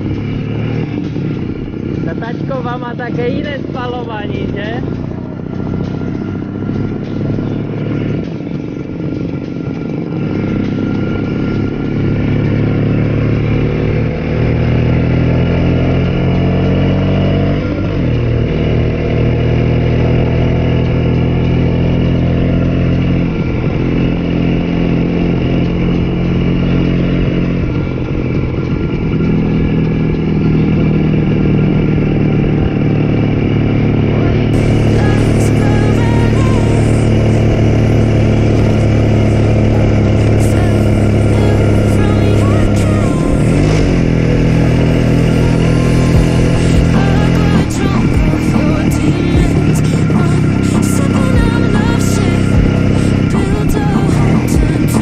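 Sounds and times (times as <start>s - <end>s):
two-stroke motorcycle engine: 0.0s - 55.0s.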